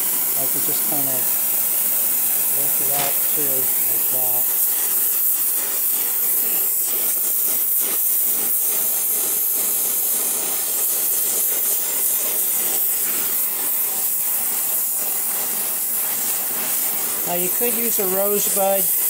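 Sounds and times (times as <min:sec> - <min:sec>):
torch hissing: 0:00.0 - 0:19.0.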